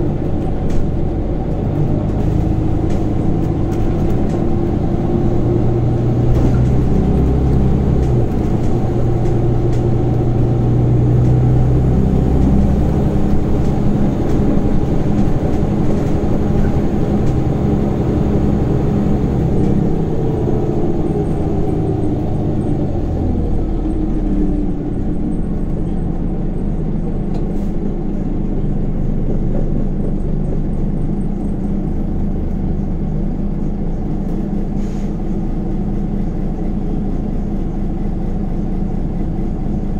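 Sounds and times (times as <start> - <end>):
bus engine drone: 0.0 - 39.9
road rumble: 0.0 - 39.9.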